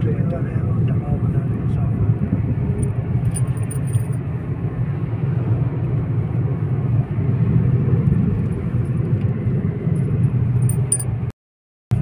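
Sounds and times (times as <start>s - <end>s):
car engine and road rumble: 0.0s - 11.3s.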